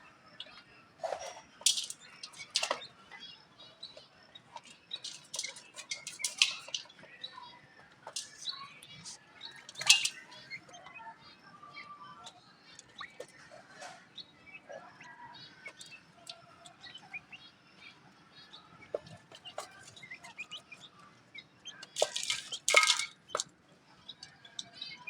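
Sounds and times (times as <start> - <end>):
birds chirping: 0.0 - 23.4.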